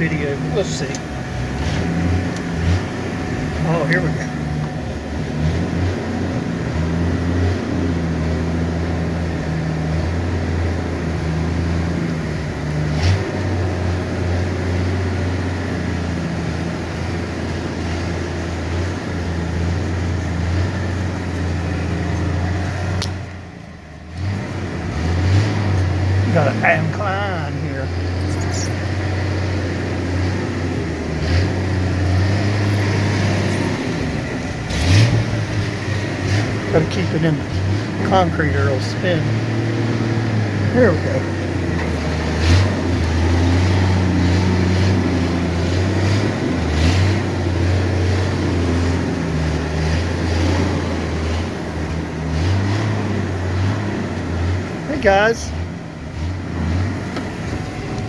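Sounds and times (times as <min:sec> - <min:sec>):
pickup engine droning: 0:00.0 - 0:58.0.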